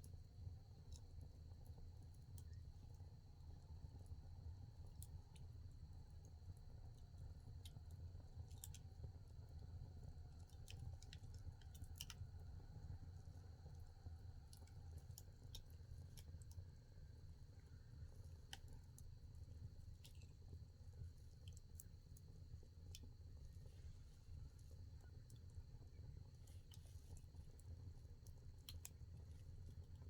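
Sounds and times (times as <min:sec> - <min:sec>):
low rumble of fire: 0:00.0 - 0:30.0.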